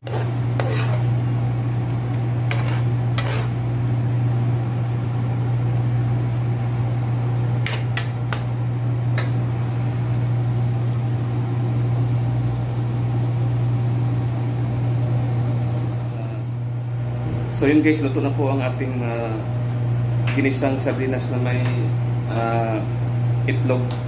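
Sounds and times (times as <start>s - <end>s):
machine-like low hum: 0.0s - 24.0s.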